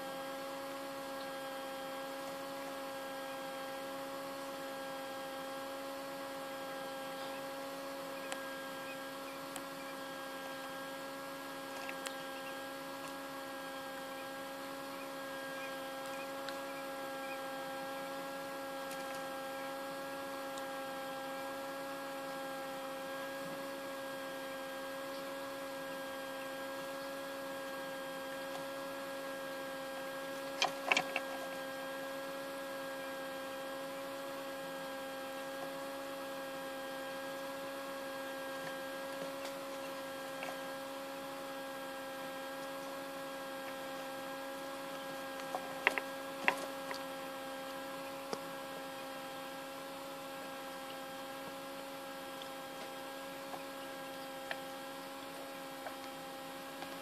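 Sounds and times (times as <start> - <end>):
fan motor humming: 0.0 - 57.0.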